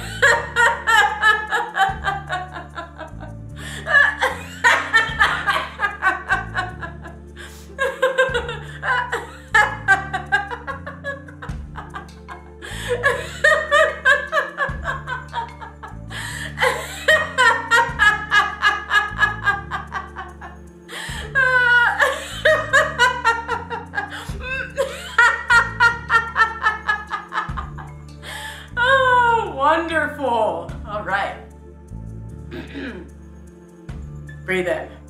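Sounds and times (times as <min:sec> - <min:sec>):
woman laughing heartily: 0:00.0 - 0:29.4, 0:32.5 - 0:33.1
upbeat background music: 0:00.0 - 0:35.0.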